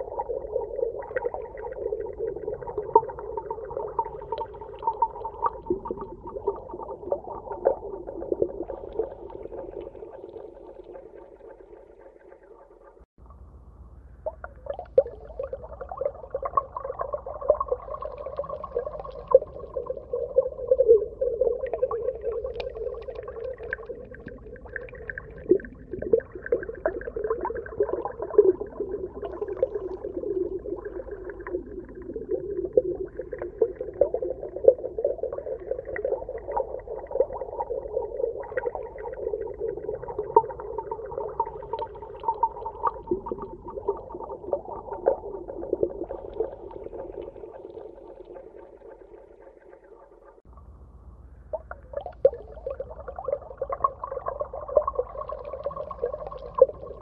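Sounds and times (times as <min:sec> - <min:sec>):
underwater clicks and crackles: 0:00.0 - 0:13.1, 0:14.2 - 0:50.4, 0:51.5 - 0:57.0
muffled underwater hum: 0:05.6 - 0:57.0.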